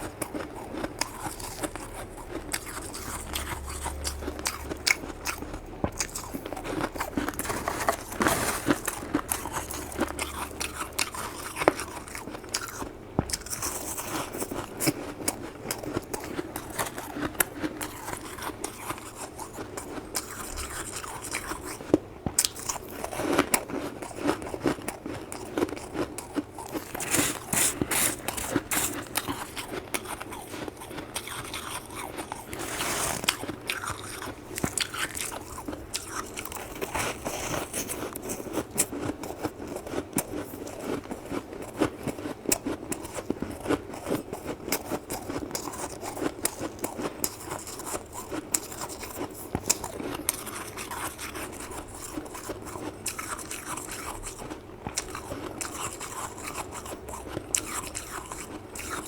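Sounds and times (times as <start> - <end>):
person chewing crunchy frost: 0.0 - 59.0.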